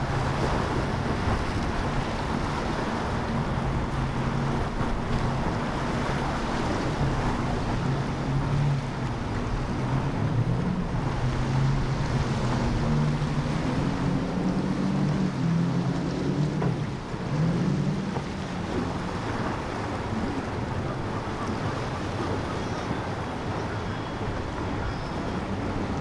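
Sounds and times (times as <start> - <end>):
outboard engines droning: 0.0 - 26.0
spray and surf rushing: 0.0 - 26.0
wind: 0.0 - 26.0.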